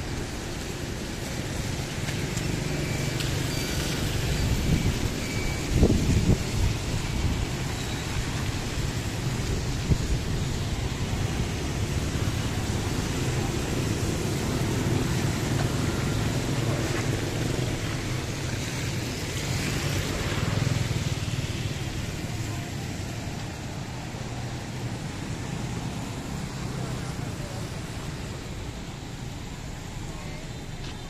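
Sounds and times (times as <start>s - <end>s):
low rumble of engines: 0.0s - 31.0s
rain and tyres hissing: 0.0s - 31.0s.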